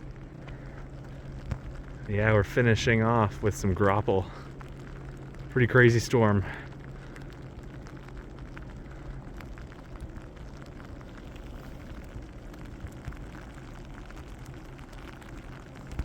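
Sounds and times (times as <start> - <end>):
ice pellets ticking: 0.0 - 16.0
steady low noise: 0.0 - 16.0.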